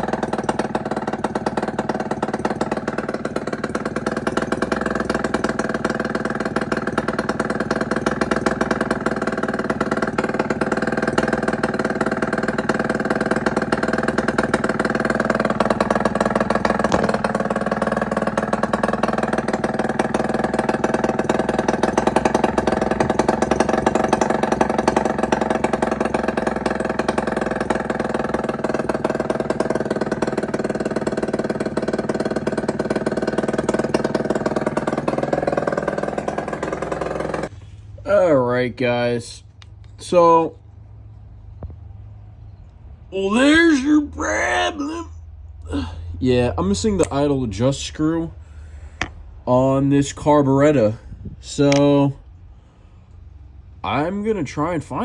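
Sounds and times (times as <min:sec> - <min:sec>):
two-stroke engine buzzing: 0:00.0 - 0:38.6, 0:39.5 - 0:55.0.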